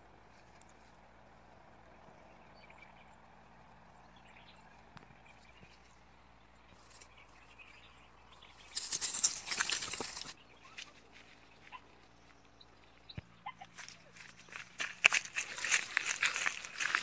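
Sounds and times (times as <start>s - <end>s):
grass and dry leaves rustling: 0.0s - 2.2s, 4.5s - 17.0s.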